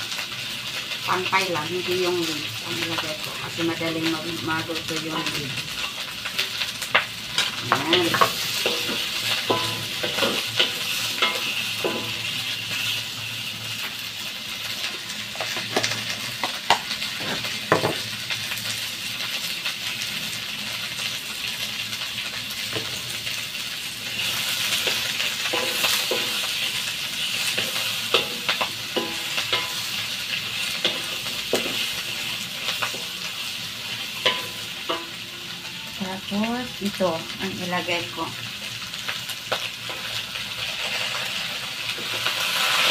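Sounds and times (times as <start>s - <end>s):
vegetables sizzling in a wok: 0.0s - 42.9s.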